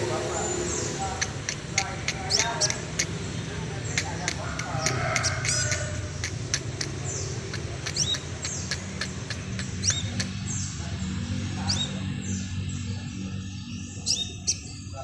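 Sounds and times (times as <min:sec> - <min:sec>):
bird chipping calls: 0:00.0 - 0:14.9.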